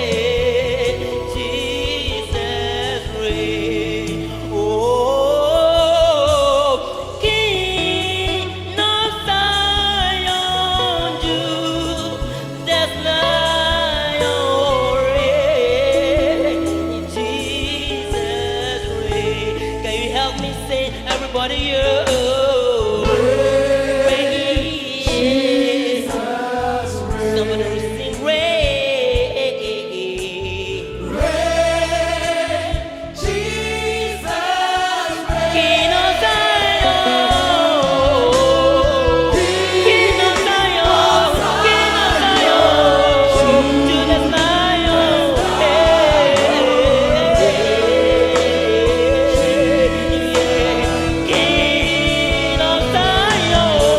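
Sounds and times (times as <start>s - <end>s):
bass: 0.0s - 53.9s
choir singing gospel: 0.0s - 53.9s
keyboard: 0.0s - 53.9s.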